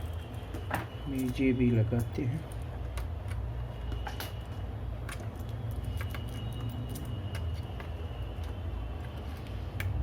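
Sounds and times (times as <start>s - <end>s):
laptop parts clicking and tapping: 0.0s - 10.0s.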